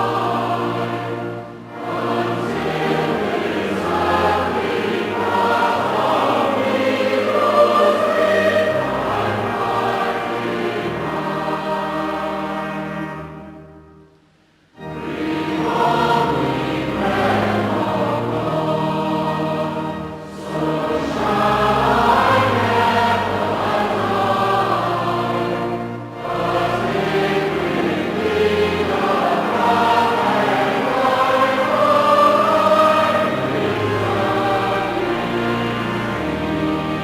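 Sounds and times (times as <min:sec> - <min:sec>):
choir singing a hymn: 0:00.0 - 0:13.9, 0:14.7 - 0:37.0.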